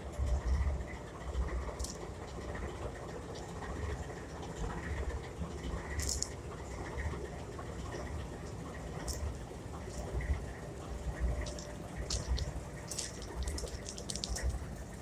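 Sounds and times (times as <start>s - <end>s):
model train rumbling: 0.0s - 15.0s.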